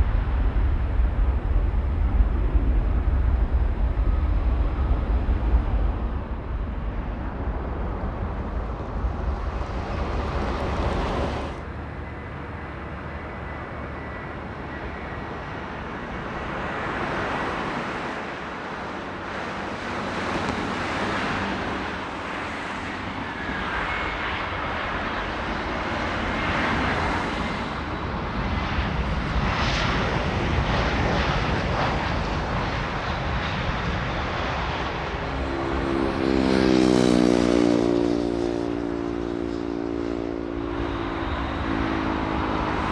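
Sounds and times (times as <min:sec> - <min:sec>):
jet engines rushing: 0:00.0 - 0:42.9.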